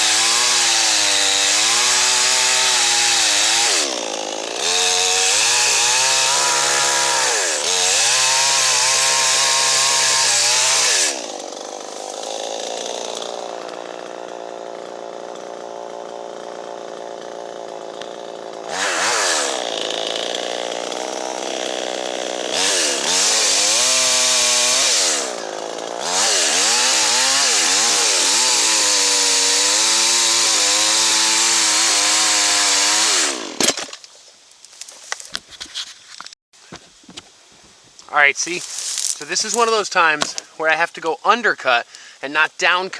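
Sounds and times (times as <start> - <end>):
chainsaw cutting wood: 0.0 - 34.1, 38.5 - 41.2, 41.8 - 42.9.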